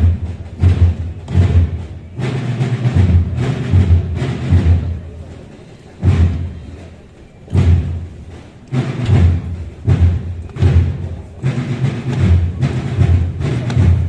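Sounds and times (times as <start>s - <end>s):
deep muffled drum beating: 0.0s - 5.0s, 7.5s - 14.0s.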